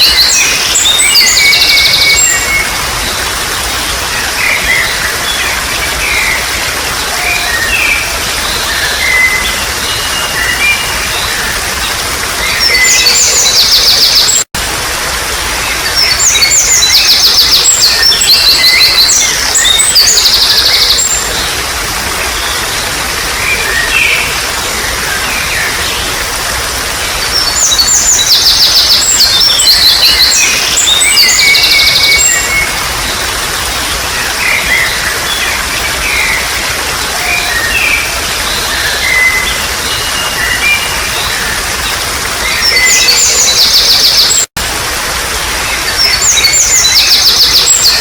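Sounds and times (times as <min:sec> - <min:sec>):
trickle of running water: 0:00.0 - 0:48.0.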